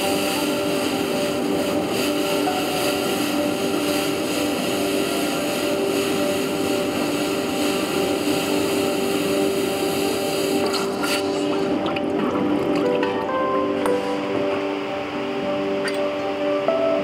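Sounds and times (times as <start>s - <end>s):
droning ambient music: 0.0s - 17.0s.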